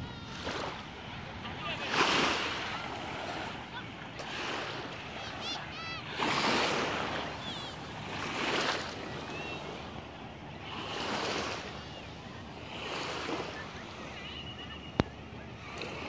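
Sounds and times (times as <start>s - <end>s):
sea waves washing on beach: 0.0s - 16.0s.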